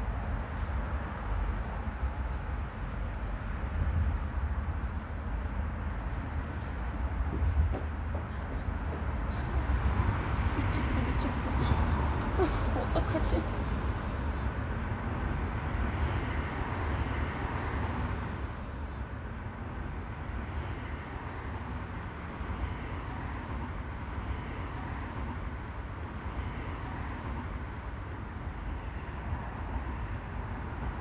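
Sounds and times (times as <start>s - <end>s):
urban traffic rumble: 0.0s - 31.0s.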